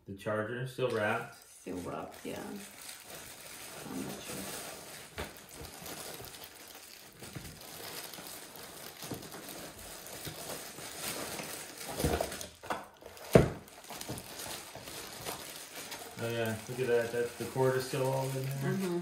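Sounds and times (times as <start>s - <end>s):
plastic wrapping crinkling: 0.9s - 19.0s
cardboard rustling: 1.7s - 19.0s.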